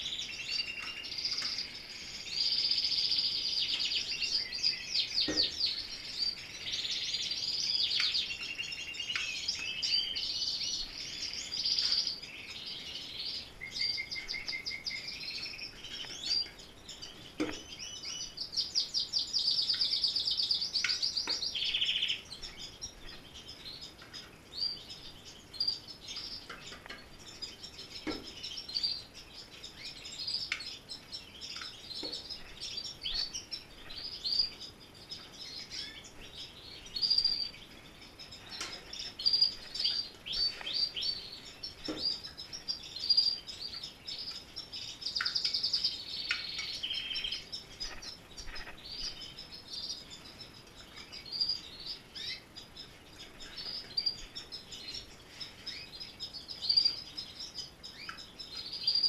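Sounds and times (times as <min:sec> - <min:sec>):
canaries chirping and singing: 0:00.0 - 0:59.0.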